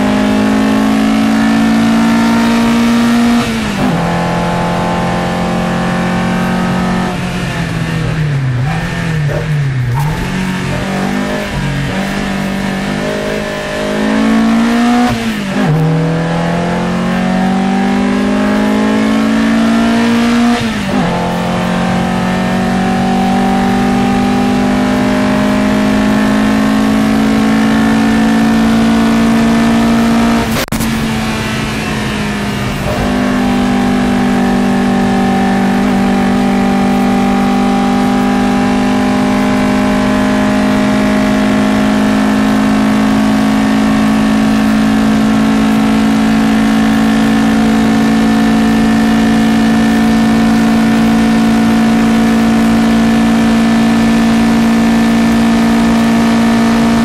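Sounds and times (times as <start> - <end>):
racing car engine: 0.0 - 57.0.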